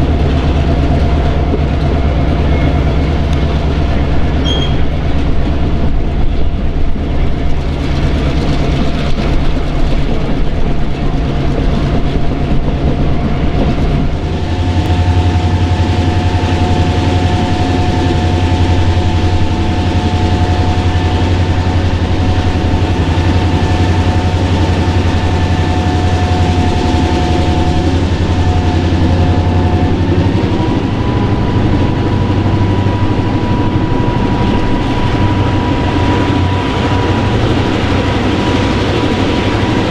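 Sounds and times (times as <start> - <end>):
steady tones: 0.0 - 39.9
train engine drone: 0.0 - 39.9.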